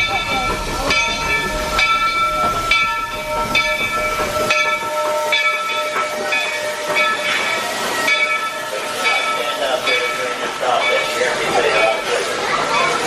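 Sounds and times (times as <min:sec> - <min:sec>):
rhythmic locomotive pulse: 0:00.0 - 0:13.0
steam hissing: 0:00.0 - 0:13.0.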